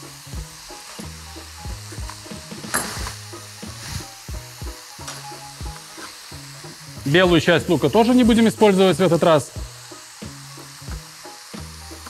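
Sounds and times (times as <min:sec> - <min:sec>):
background music: 0:00.0 - 0:12.0
stir-fry sizzling in a pan: 0:00.0 - 0:12.0.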